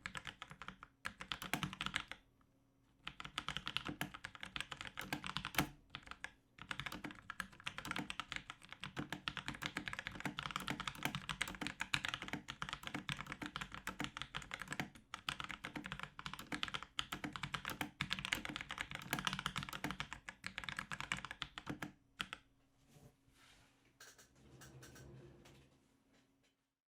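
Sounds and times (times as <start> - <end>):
mechanical keyboard typing: 0.0 - 2.2, 3.0 - 22.4.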